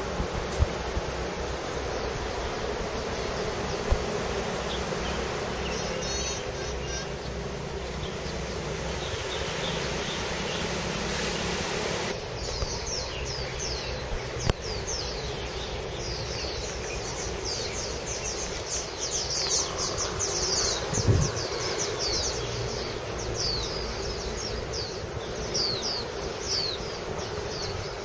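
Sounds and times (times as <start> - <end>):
insect-like buzzing hiss: 0.0 - 28.0.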